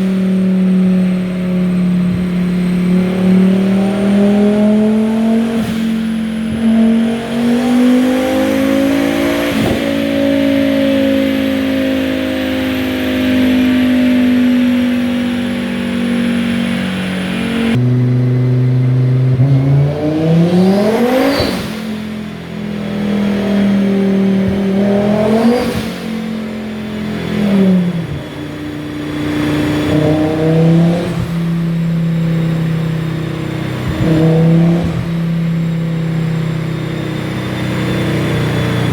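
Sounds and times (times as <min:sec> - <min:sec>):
car engine revving on a dyno: 0:00.0 - 0:38.9.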